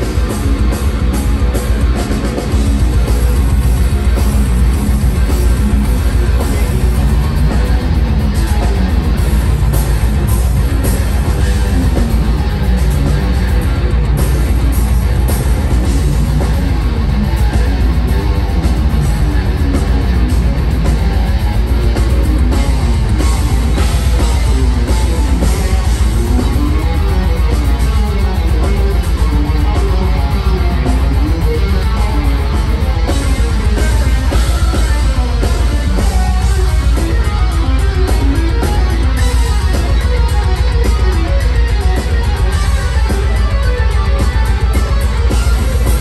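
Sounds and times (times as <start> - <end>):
bass guitar: 0.0 - 46.0
drums: 0.0 - 46.0
electric guitar: 0.0 - 46.0
keyboards: 0.0 - 46.0.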